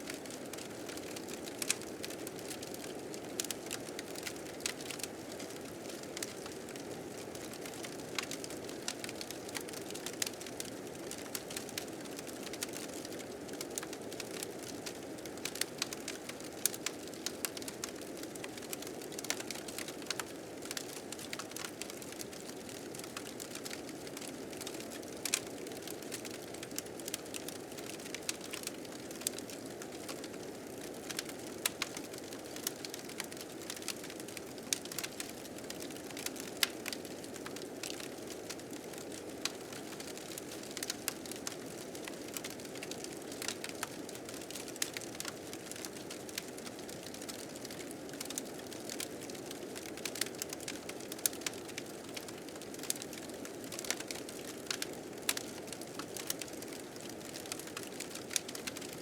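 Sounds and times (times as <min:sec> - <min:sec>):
wood fire crackling and popping: 0:00.1 - 0:59.0.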